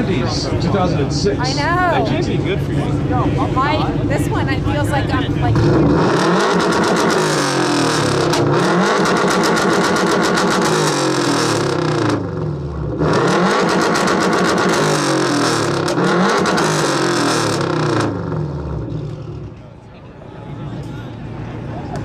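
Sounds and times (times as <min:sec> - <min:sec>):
car engine revving: 0:00.0 - 0:19.6.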